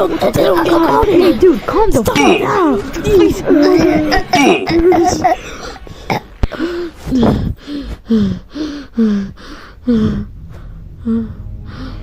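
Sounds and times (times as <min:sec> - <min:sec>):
low steady hum: 0:01.1 - 0:12.0.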